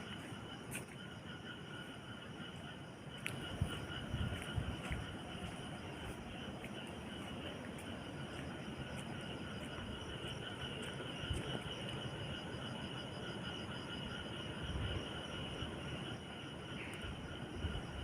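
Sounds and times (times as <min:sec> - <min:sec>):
insects chirping in pulsing trill: 0:00.0 - 0:18.0
wind rumbling on microphone: 0:01.7 - 0:12.4, 0:14.0 - 0:18.0.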